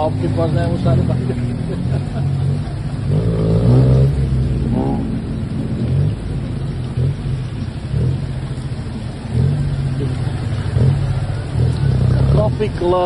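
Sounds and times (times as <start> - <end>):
heavy rain: 0.0 - 13.0
vehicle engine hum: 0.0 - 13.0
wet road noise: 0.0 - 13.0.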